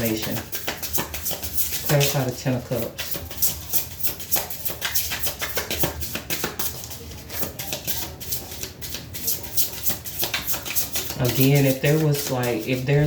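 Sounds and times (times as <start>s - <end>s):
cards being shuffled: 0.0s - 13.0s.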